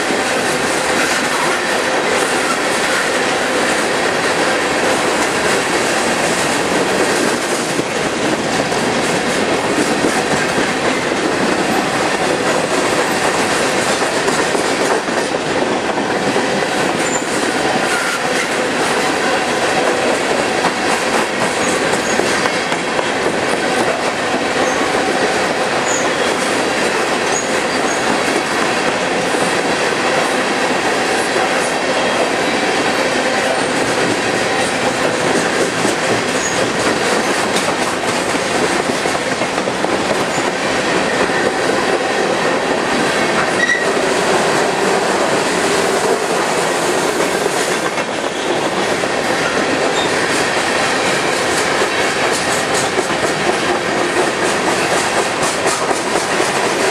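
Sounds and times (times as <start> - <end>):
train wheels rumbling on rails: 0.0 - 56.9.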